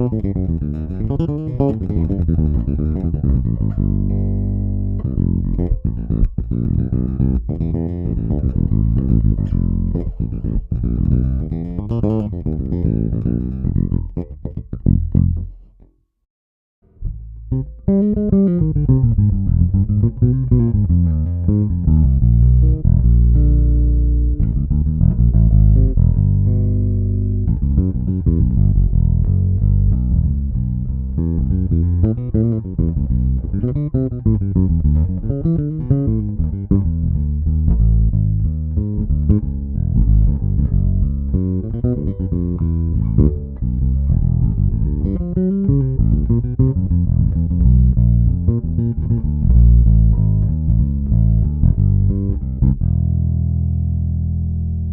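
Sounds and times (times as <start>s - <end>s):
electric bass plucked notes: 0.0s - 15.9s, 16.8s - 54.9s.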